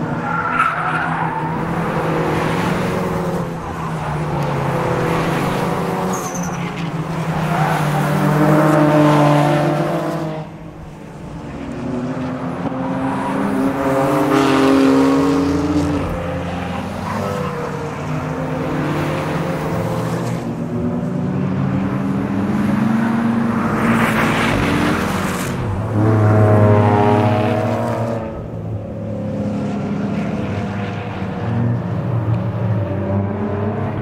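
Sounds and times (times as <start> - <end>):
sports cars passing: 0.0 - 34.0.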